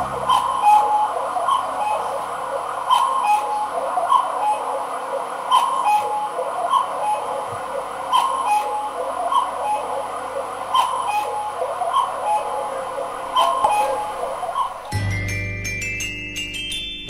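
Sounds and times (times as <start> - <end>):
two-note cuckoo call: 0.0 - 4.7, 5.5 - 15.9.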